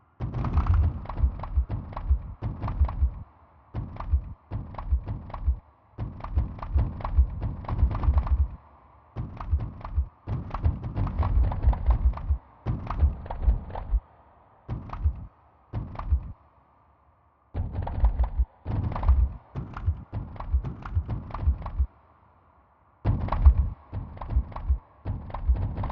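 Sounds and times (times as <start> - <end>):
deep thuds with clicks: 0.2 - 3.2, 3.8 - 8.6, 9.2 - 14.0, 14.7 - 16.4, 17.6 - 21.9, 23.1 - 25.9.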